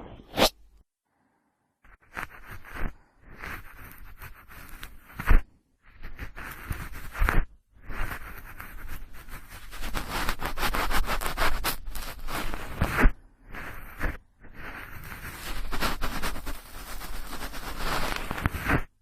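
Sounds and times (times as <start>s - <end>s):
cotton swab rubbing microphone: 1.8s - 19.0s.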